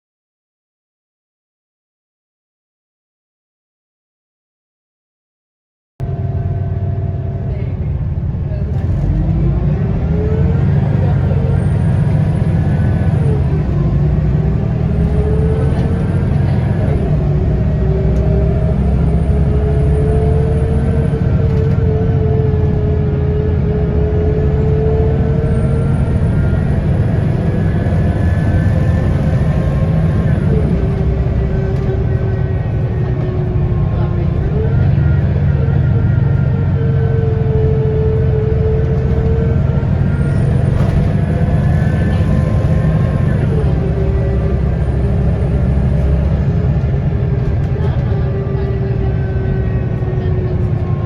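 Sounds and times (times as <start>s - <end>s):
bus engine rumble: 6.0s - 51.0s.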